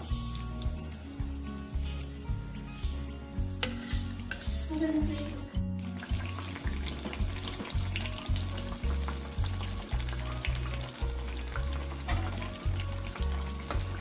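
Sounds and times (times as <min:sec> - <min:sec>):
deep-frying sizzle in oil: 0:00.0 - 0:14.0.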